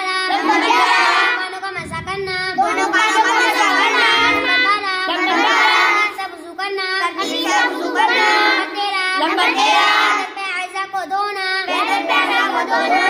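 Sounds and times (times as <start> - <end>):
girl reciting in sing-song chant: 0.0 - 13.0.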